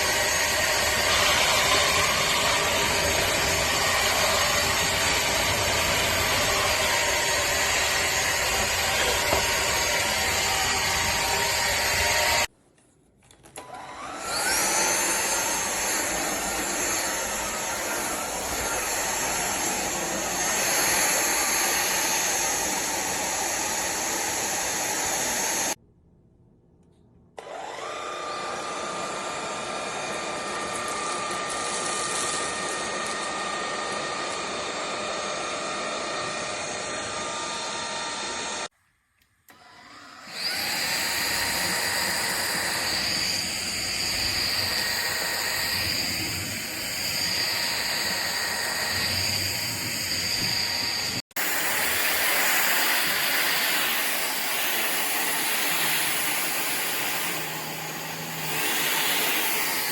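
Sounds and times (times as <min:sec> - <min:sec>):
stick vacuum whining: 0:00.0 - 0:12.6, 0:13.3 - 0:25.8, 0:27.4 - 0:59.9.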